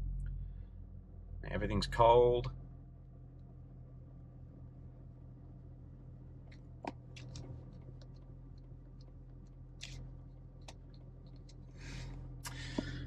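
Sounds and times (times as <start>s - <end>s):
car engine idle hum: 0.0s - 13.0s.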